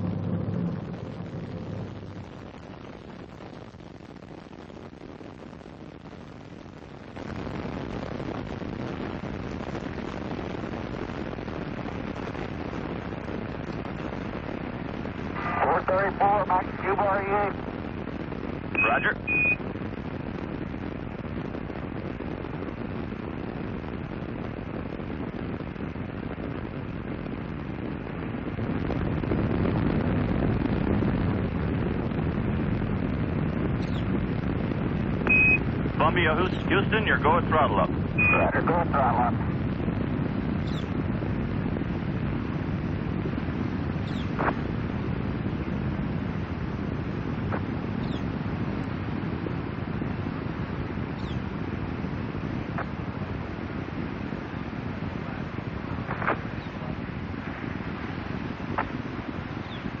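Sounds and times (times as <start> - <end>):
distant rocket exhaust rumble: 0.0 - 60.0.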